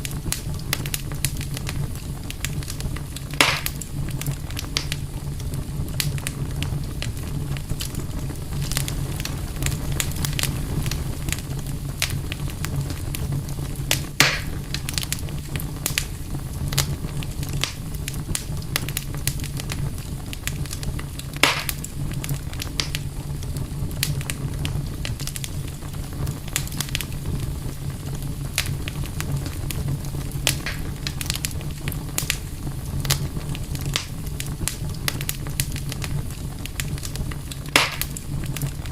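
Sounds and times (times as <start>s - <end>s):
campfire crackling: 0.0s - 38.9s
loud fire pops: 0.0s - 38.9s.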